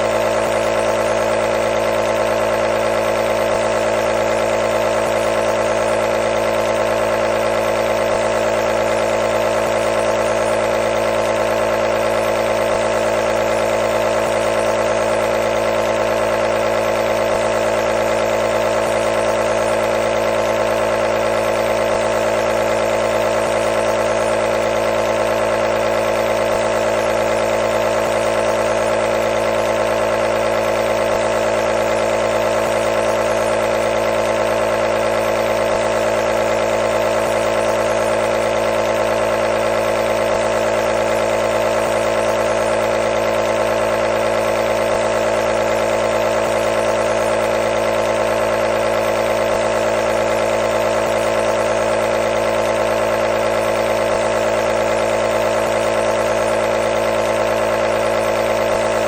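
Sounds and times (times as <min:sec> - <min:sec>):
nebulizer buzzing hum: 0:00.0 - 0:59.0.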